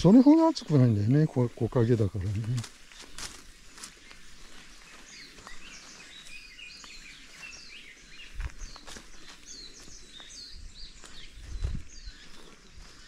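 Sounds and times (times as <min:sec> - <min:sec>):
birds chirping: 0:00.0 - 0:13.0
footsteps on forest trail: 0:00.0 - 0:13.0.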